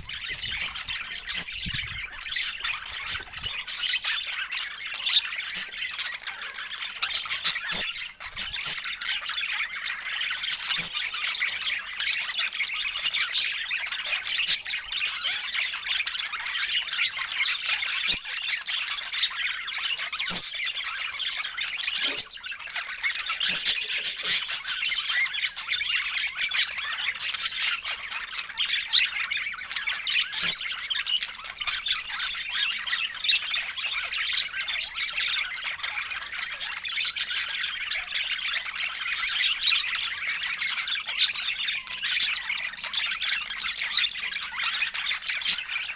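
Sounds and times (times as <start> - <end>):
budgerigars chattering and squawking: 0.0 - 45.9.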